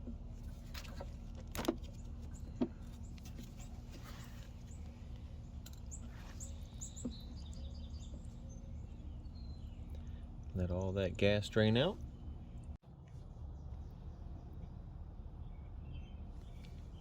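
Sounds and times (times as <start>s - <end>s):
steady low hum: 0.0s - 17.0s
birds chirping: 1.9s - 12.8s, 13.4s - 17.0s.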